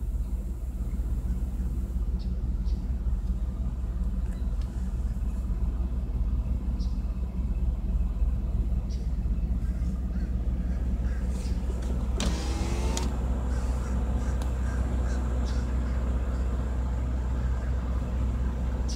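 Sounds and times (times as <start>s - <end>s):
car engine rumble from cabin: 0.0s - 18.9s.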